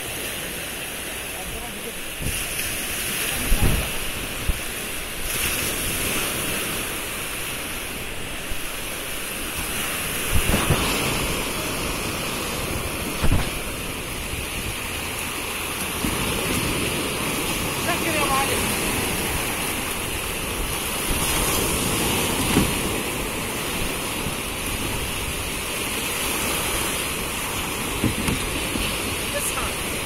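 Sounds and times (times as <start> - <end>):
sea surf breaking on beach: 0.0 - 30.0
wind buffeting microphone: 1.6 - 30.0.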